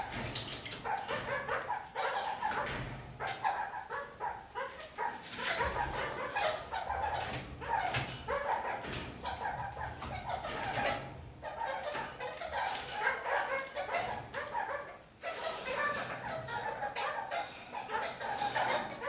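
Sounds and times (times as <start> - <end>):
parakeets chattering and calling: 0.0 - 19.0.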